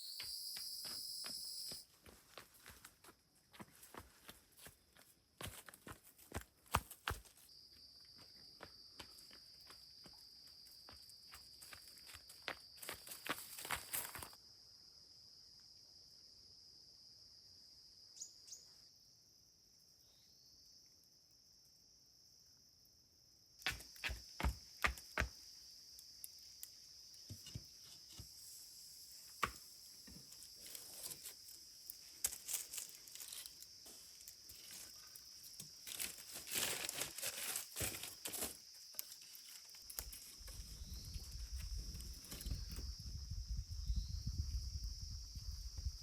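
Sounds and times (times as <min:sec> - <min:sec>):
crickets chirring: 0:00.0 - 0:46.0.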